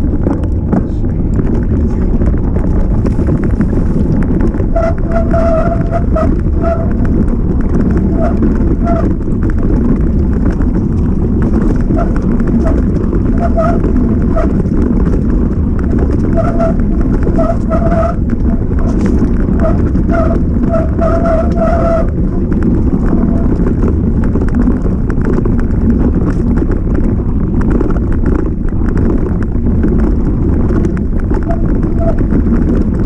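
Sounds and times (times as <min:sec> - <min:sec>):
bike rattling over rough ground: 0:00.0 - 0:33.0
wind rumble on microphone: 0:00.0 - 0:33.0.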